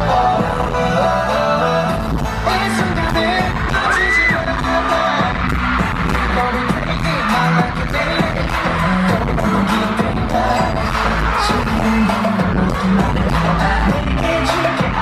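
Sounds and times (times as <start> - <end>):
pop dance track with singing: 0.0 - 15.0.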